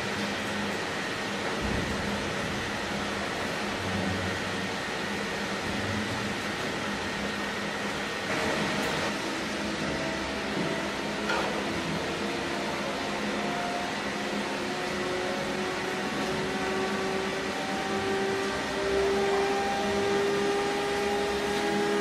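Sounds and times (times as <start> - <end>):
furnace and blowers humming: 0.0 - 22.0.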